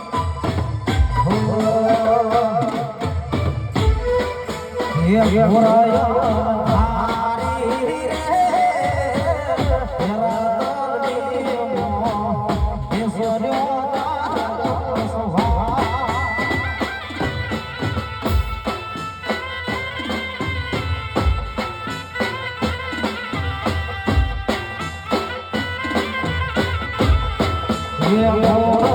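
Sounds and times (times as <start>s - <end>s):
reedy instrumental melody: 0.0s - 28.9s
steady drum beat: 0.0s - 28.9s.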